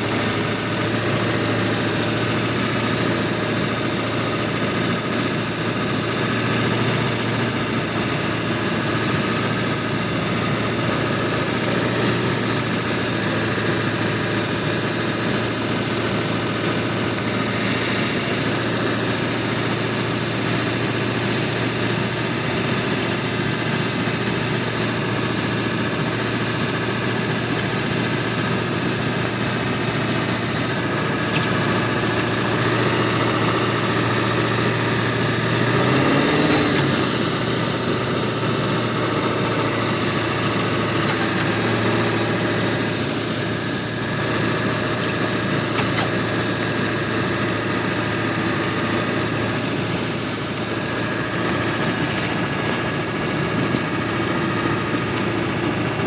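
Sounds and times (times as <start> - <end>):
truck engine running in cab: 0.0 - 56.0.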